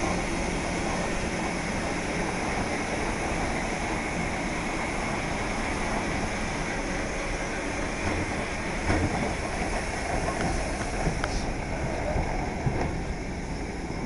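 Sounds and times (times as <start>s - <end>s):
train tender rolling: 0.0s - 14.0s.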